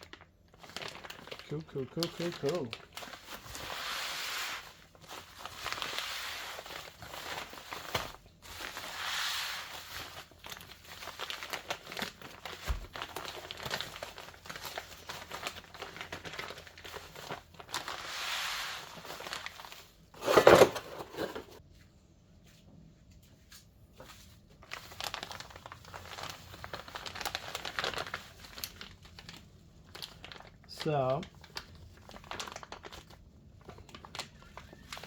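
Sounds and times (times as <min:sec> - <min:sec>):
packaging crinkling and rustling: 0:00.0 - 0:21.6, 0:23.4 - 0:35.0.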